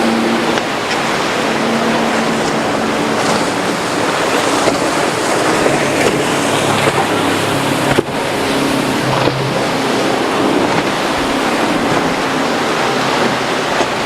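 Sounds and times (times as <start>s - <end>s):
speedboat outboard engines: 0.0s - 14.0s
wind and waves rushing: 0.0s - 14.0s.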